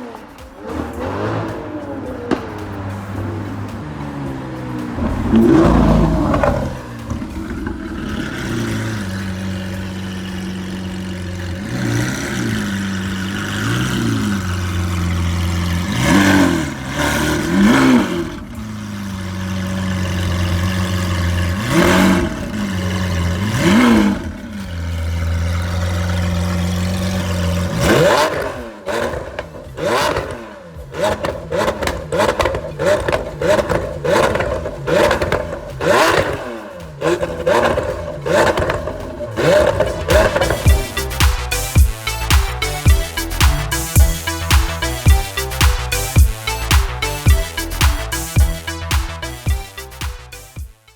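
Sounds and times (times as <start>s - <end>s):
sports car engine revving: 0.0s - 50.7s
exhaust pops and crackles: 0.0s - 50.9s.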